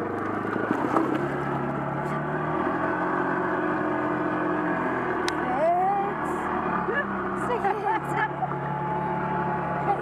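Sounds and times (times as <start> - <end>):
atv engine running under load: 0.0 - 10.0.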